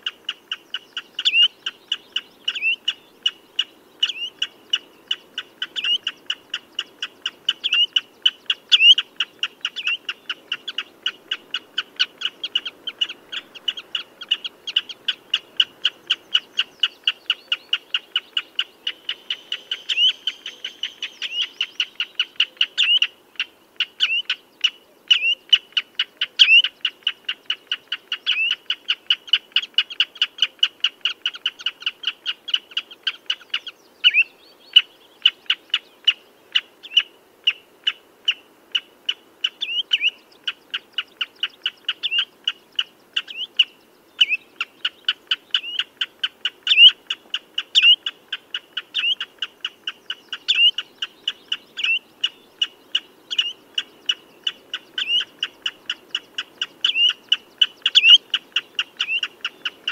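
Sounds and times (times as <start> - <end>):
shorebird piping calls: 0.0 - 59.9.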